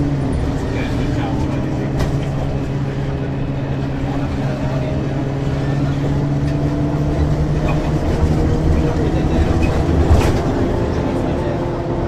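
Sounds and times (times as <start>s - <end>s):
bus diesel engine drone: 0.0s - 12.0s
bus rattles: 0.0s - 12.0s.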